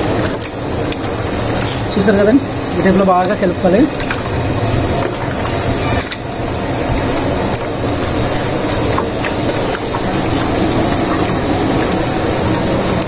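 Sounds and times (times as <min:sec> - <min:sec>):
hand mixing wet marinade squelching: 0:00.0 - 0:13.0
steady loud rushing noise: 0:00.0 - 0:13.0.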